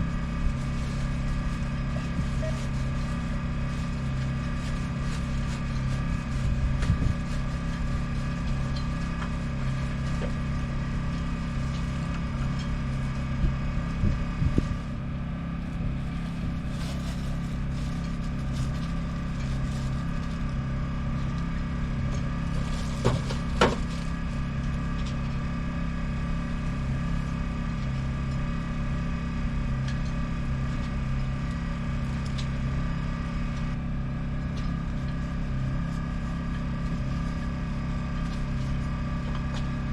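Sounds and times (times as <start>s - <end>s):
motor droning: 0.0s - 39.9s.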